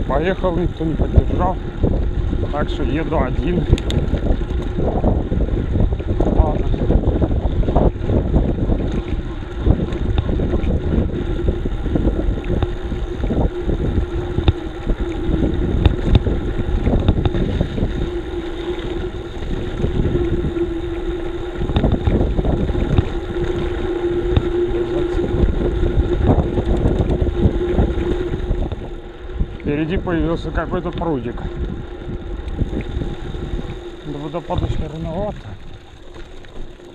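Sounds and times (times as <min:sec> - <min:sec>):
road and tyre noise: 0:00.0 - 0:36.9
steady hum: 0:00.0 - 0:36.9
wind buffeting microphone: 0:00.0 - 0:36.9.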